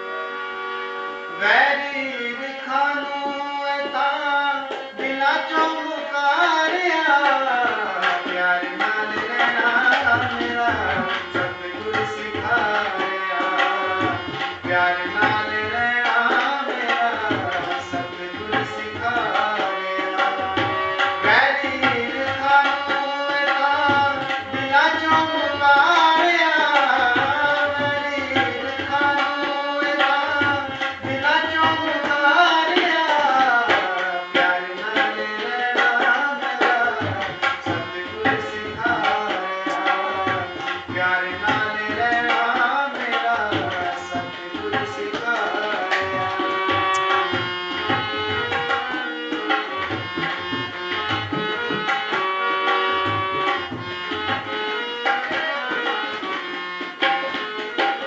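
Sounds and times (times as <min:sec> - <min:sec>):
harmonium melody: 0:00.0 - 0:58.0
tabla rhythm: 0:00.0 - 0:58.0
man singing: 0:01.4 - 0:52.0, 0:52.6 - 0:58.0.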